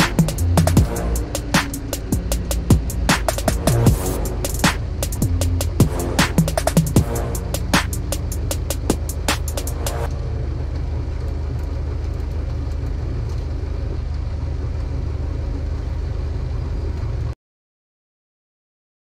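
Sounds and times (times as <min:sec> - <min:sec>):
light aircraft engine drone: 0:00.0 - 0:17.4.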